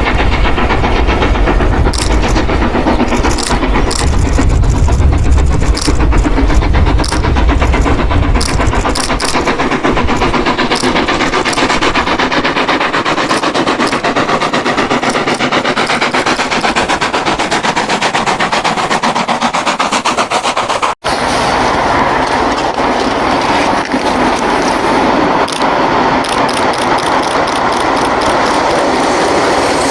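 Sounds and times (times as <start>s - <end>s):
rail and running-gear clatter: 0.0s - 29.9s
steam locomotive running: 0.0s - 29.9s.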